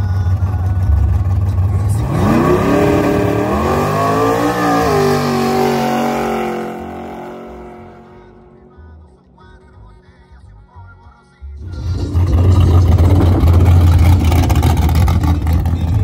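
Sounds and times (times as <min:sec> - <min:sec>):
drag racing car accelerating: 0:00.0 - 0:09.3, 0:11.6 - 0:16.0.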